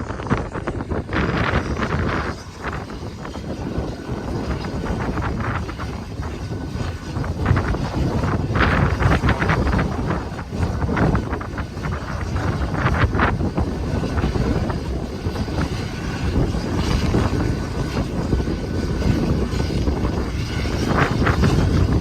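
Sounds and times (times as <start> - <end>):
distant helicopter running: 0.0 - 22.0
strong wind buffeting microphone: 0.0 - 22.0.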